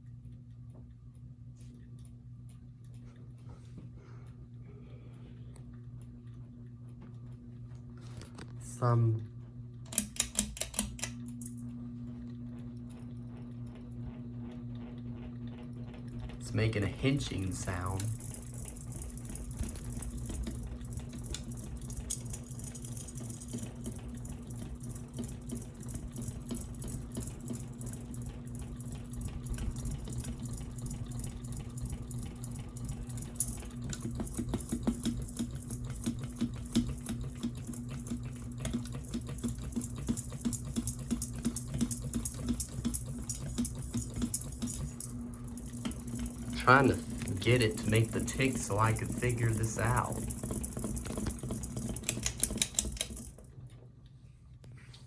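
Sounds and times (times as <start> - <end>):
ceiling fan motor humming: 0.0 - 55.0.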